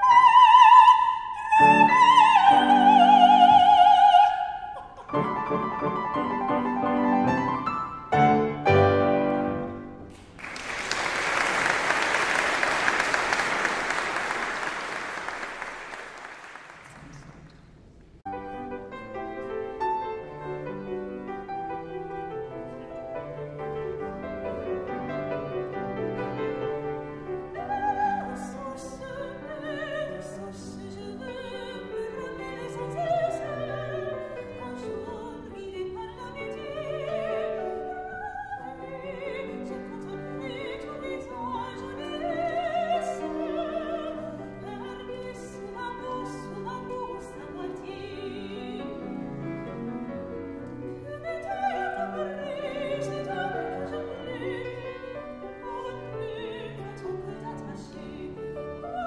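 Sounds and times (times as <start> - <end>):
classical singing with vibrato: 0.0 - 10.1, 18.3 - 59.0
piano: 0.0 - 59.0.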